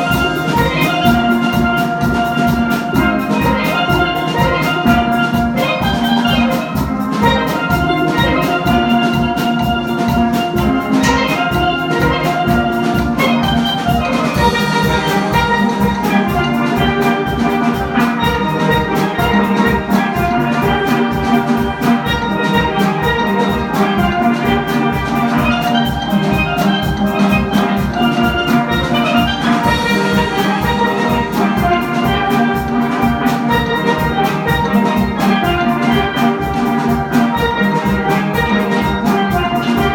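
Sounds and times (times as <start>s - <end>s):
steady drum beat: 0.0s - 39.9s
steelpans playing melody: 0.0s - 39.9s.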